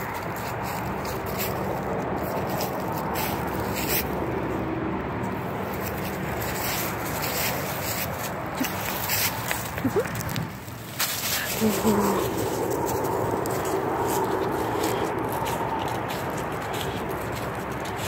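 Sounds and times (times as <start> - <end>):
dry leaves crackling and rustling: 0.0 - 18.0
steady rushing background noise: 0.0 - 18.0.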